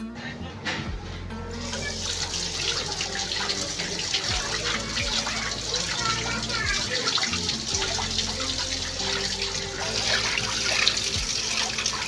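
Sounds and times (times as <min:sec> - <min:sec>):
tap running into sink: 0:01.5 - 0:12.0.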